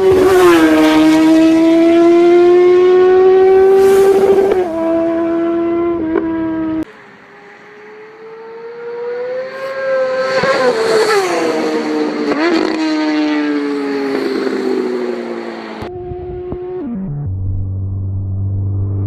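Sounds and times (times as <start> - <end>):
motorcycle passing by: 0.0 - 16.2.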